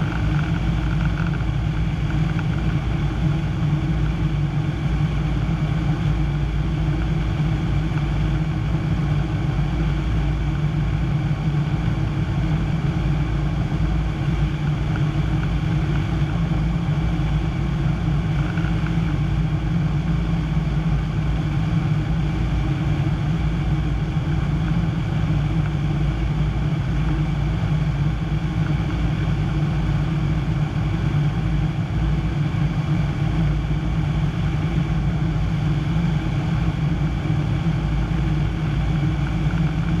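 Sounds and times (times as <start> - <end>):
propeller plane engine droning: 0.0 - 40.0.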